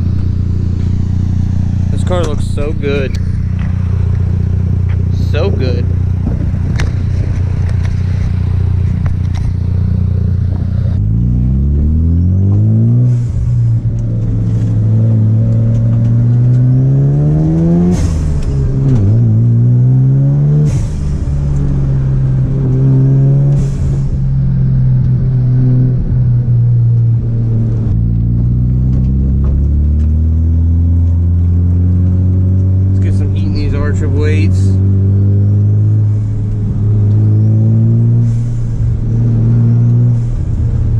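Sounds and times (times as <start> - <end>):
rotary engine accelerating: 0.0 - 40.9.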